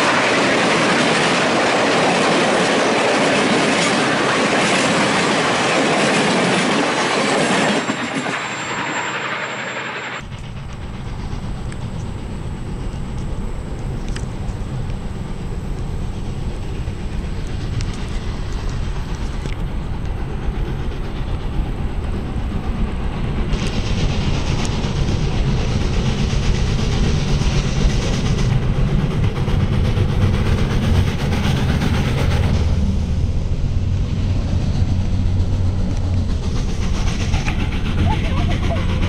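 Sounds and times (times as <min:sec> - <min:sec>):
steam hiss: 0:00.0 - 0:39.0
steam train rumbling on rails: 0:00.0 - 0:39.0.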